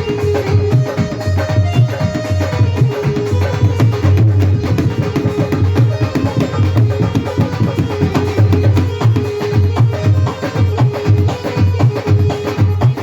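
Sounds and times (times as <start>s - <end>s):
fast dense drumming: 1.8s - 13.0s.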